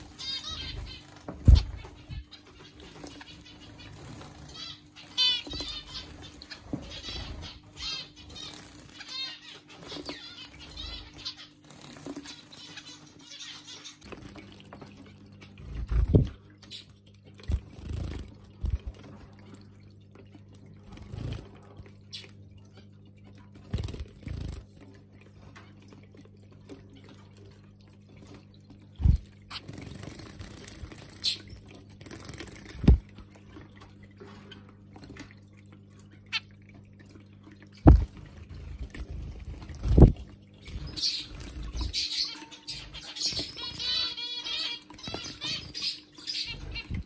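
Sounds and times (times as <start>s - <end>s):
low pump hum: 0.0s - 47.0s.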